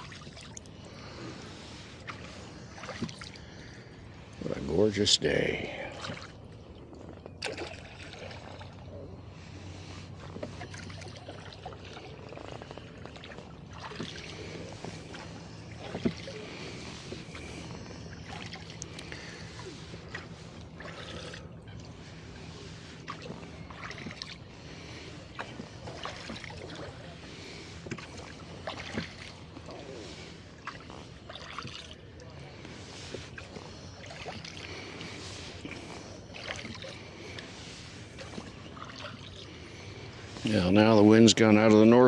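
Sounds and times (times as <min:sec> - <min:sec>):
oars dipping in water: 0:00.0 - 0:42.0
water moving along hull: 0:00.0 - 0:42.0.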